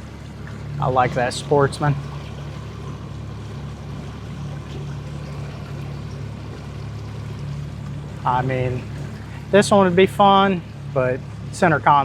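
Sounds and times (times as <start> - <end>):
boat engine humming: 0.0 - 12.0
water washing along hull: 0.0 - 12.0.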